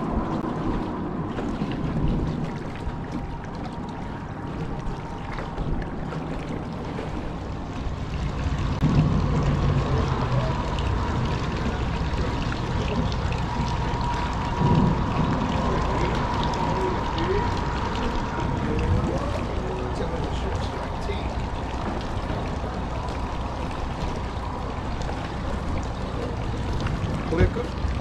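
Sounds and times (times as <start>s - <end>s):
water lapping against boat hull: 0.0s - 28.0s
faint steady whine: 3.3s - 28.0s.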